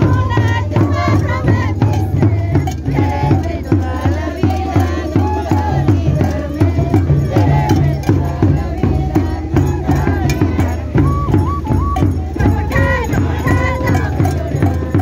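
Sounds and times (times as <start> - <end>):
cane flute: 0.0 - 15.0
group singing in high voices: 0.0 - 15.0.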